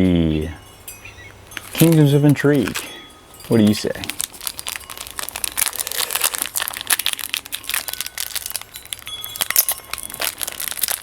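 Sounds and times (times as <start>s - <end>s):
foil pack crinkling: 1.6s - 11.0s.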